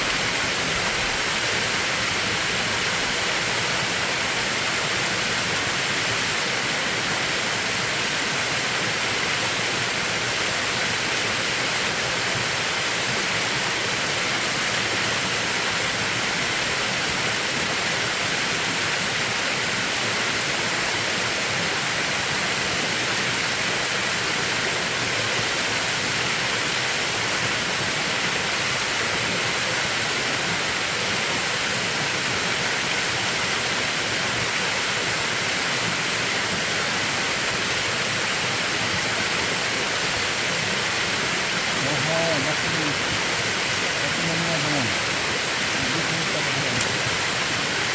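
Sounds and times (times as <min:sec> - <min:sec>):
stream water rushing: 0:00.0 - 0:47.9.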